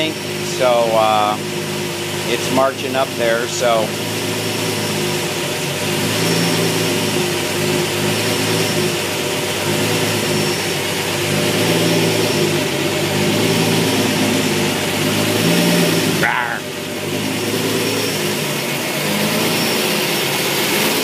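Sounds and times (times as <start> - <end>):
car engine surging idle: 0.0 - 21.0.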